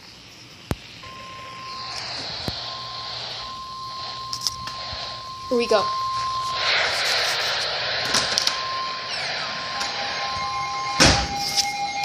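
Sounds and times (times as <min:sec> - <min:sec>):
hissing data noise: 0:00.0 - 0:12.0
high alert tone: 0:01.0 - 0:12.0.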